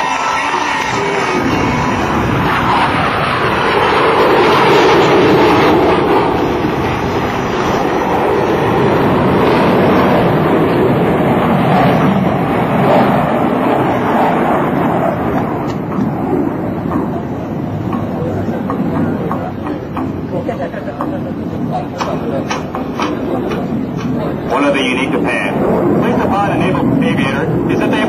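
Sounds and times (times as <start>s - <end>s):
jet aircraft flying past: 0.0s - 28.0s.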